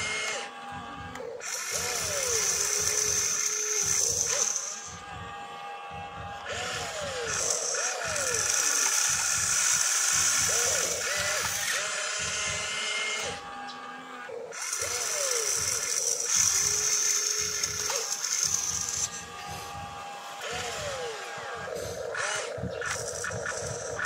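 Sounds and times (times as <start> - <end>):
electric motors whirring: 0.0 - 24.0.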